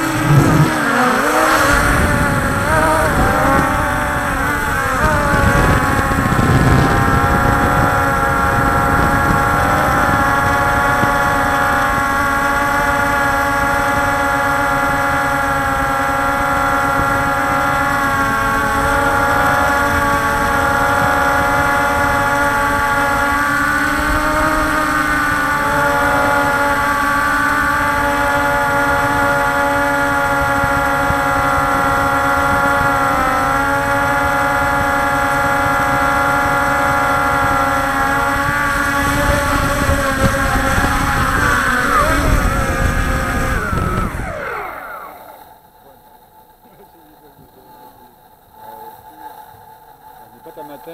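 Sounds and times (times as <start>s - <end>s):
rough low rustling: 0.0s - 45.5s
drone propellers whining: 0.0s - 50.9s.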